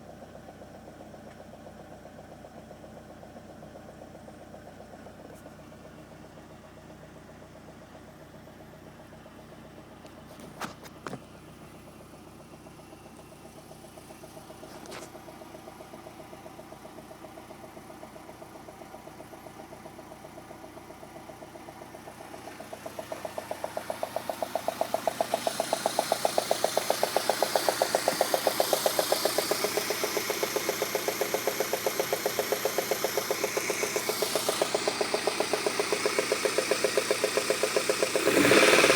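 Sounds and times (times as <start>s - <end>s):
engine idling with knock: 0.0s - 38.9s.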